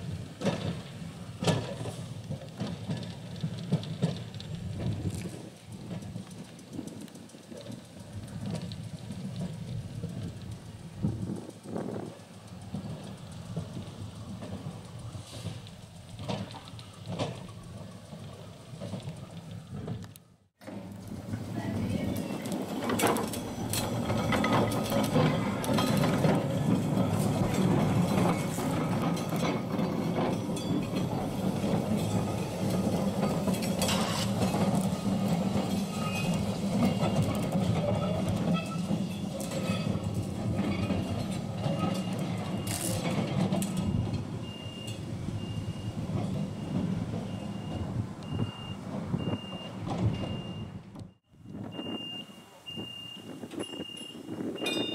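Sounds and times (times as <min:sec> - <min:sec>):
steel wheels clicking over rails: 0:00.0 - 0:52.0
tram motor hum: 0:00.0 - 0:52.7.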